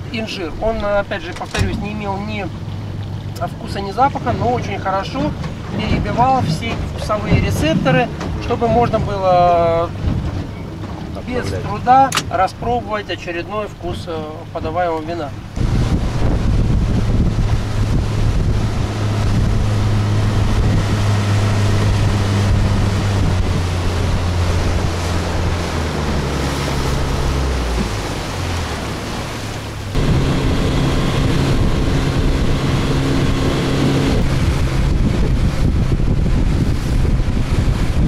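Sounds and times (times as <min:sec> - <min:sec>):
motorboat engine hum: 0:00.0 - 0:38.0
water rushing along hull: 0:00.0 - 0:38.0
wind buffeting microphone: 0:00.0 - 0:38.0.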